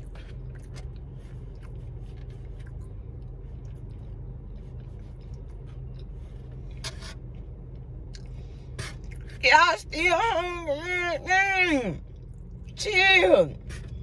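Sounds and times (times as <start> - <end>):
car idling hum inside cabin: 0.0 - 14.0.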